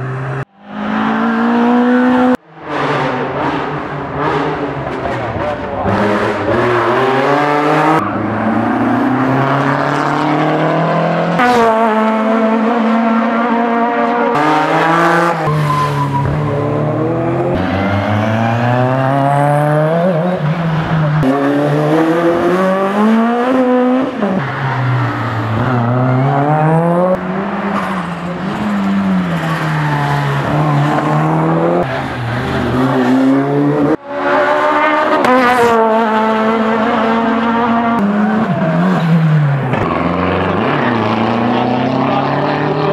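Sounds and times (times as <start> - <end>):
race cars revving past: 0.0 - 42.9.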